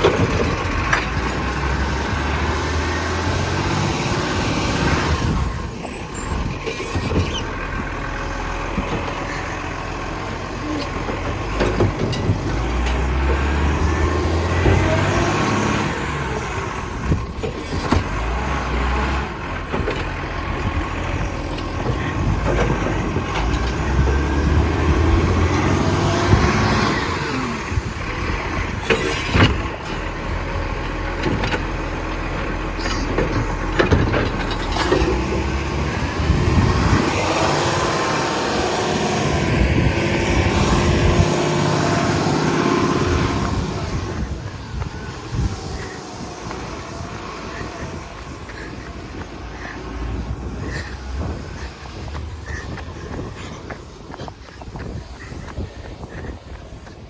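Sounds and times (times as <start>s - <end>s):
garbage truck engine running: 0.0s - 57.0s.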